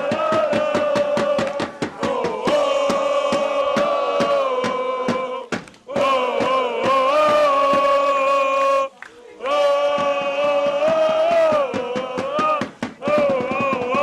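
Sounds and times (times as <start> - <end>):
crowd chanting long notes: 0.0 - 14.0.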